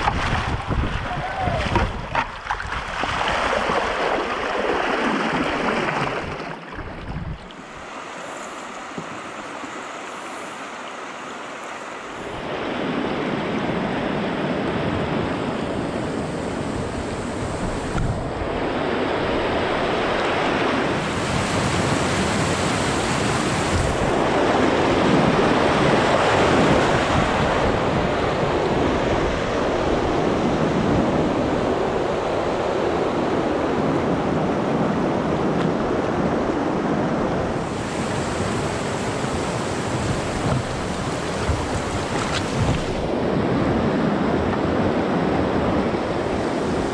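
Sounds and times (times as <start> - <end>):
wind on microphone: 0.0 - 10.6, 12.1 - 46.9
river rapid roaring: 0.0 - 46.9.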